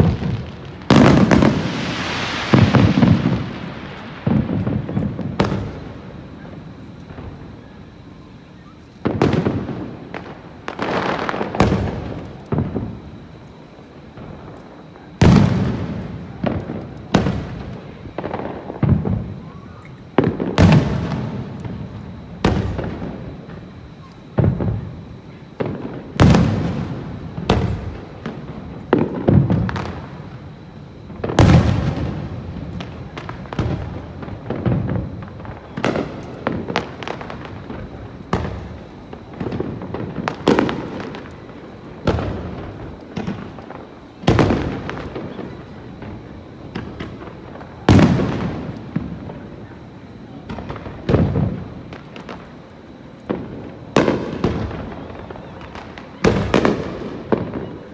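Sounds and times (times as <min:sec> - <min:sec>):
fireworks bursting with echoing booms: 0:00.0 - 0:57.9.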